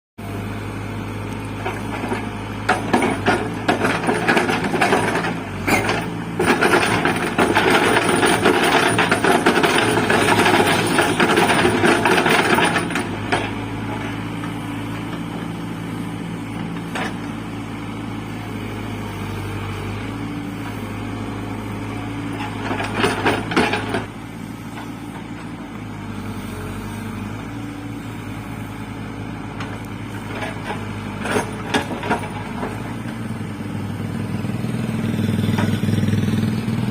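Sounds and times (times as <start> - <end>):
diesel engine running: 0.2 - 36.9.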